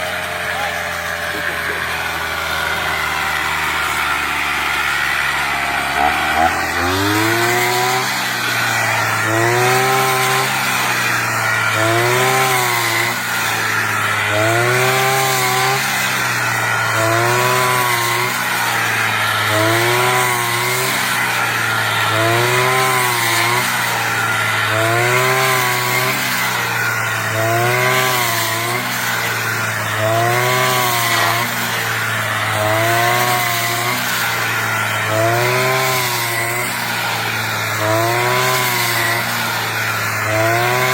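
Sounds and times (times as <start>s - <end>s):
brush cutter engine running: 0.0s - 40.9s.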